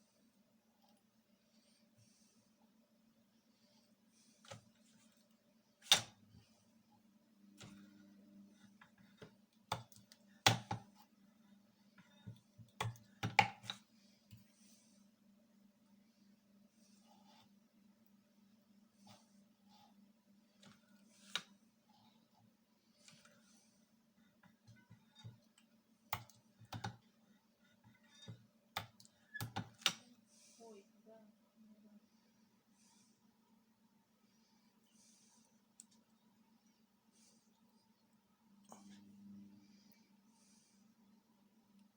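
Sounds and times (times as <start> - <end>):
low mains hum: 0.0 - 41.9.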